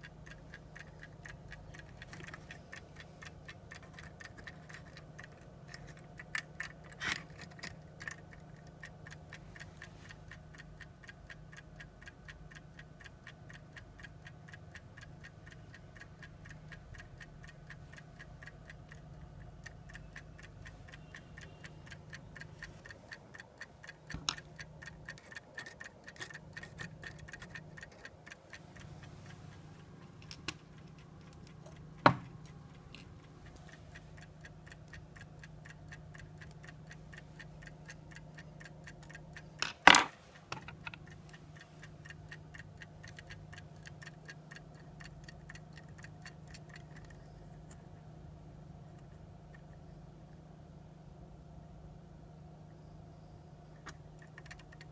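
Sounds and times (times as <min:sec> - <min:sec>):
clock ticking: 0:00.0 - 0:48.0, 0:53.8 - 0:54.9.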